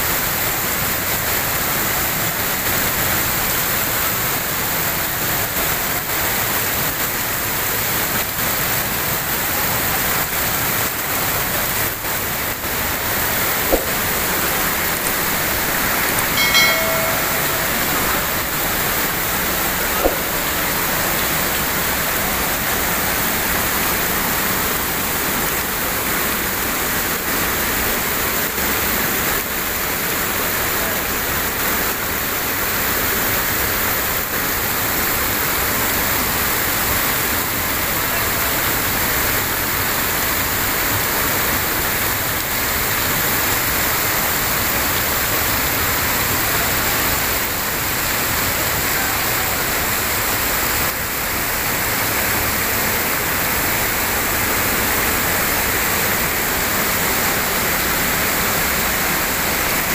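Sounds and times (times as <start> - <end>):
waterfall rushing into pool: 0.0 - 59.9.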